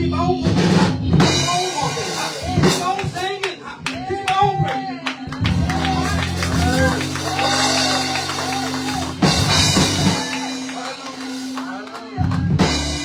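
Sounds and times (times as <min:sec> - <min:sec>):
held keyboard chords: 0:00.0 - 0:13.0.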